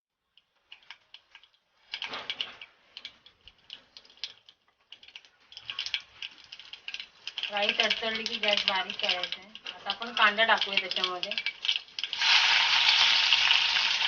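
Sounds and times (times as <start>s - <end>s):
seeds popping in hot oil: 0.1s - 14.0s.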